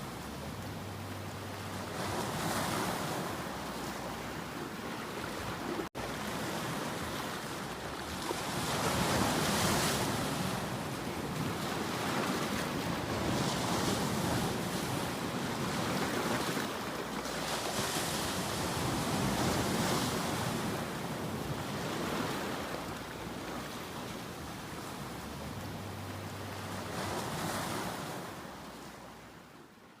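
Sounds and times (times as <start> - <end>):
sea waves breaking: 0.0 - 29.5.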